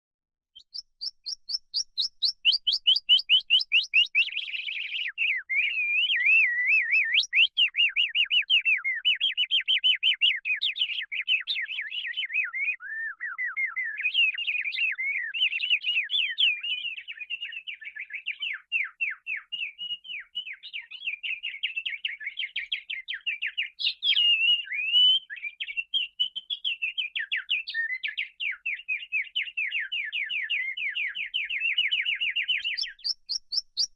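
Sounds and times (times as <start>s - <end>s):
canary singing: 0.6s - 21.4s, 23.1s - 33.9s.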